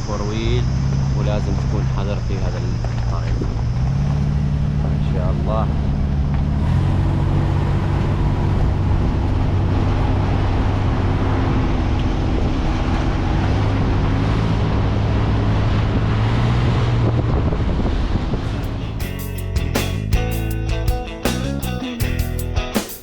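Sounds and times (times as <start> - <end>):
vehicle engine hum: 0.0 - 20.9
tyre and road noise: 0.0 - 23.0.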